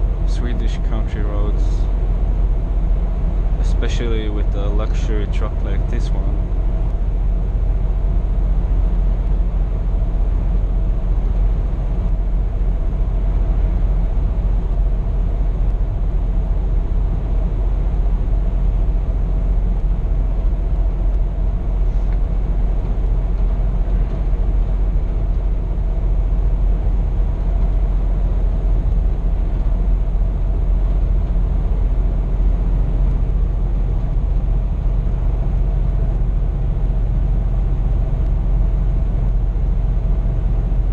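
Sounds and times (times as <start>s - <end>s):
truck cab engine drone: 0.0s - 40.9s.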